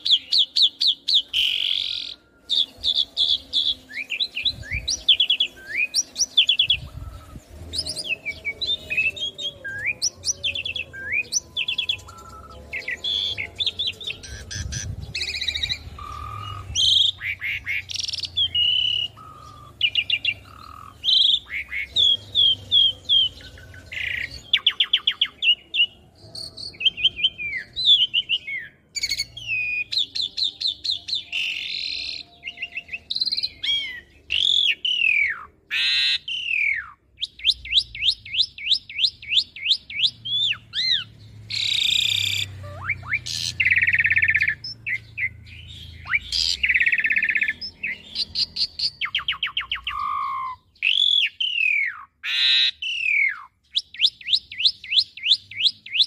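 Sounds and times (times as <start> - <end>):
starling singing: 0.0 - 56.0.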